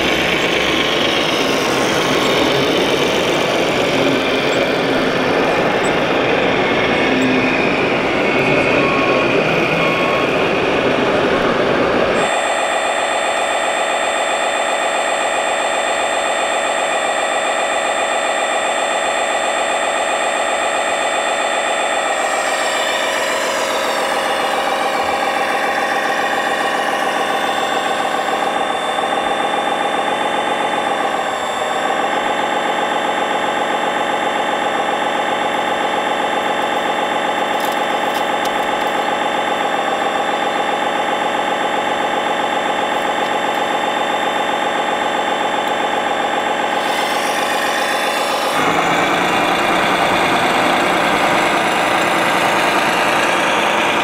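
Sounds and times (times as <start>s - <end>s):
toy excavator motor whining: 0.0s - 54.0s.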